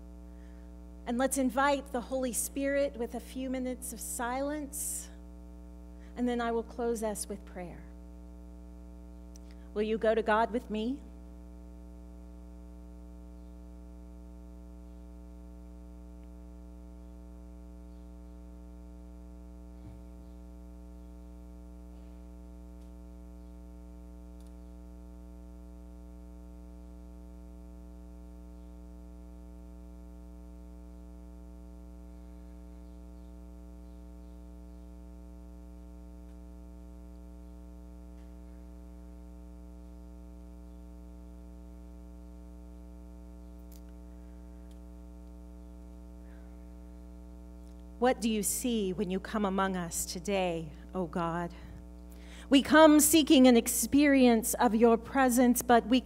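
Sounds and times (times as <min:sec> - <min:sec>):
low mains hum: 0:00.0 - 0:56.0.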